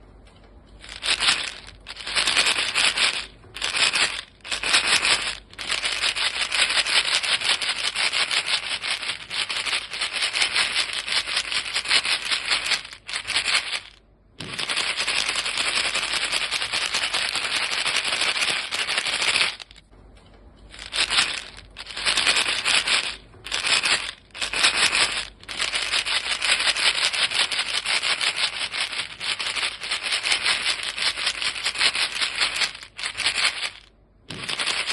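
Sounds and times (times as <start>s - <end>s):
gum pellets rattling in box: 0.8s - 19.8s, 20.7s - 34.9s.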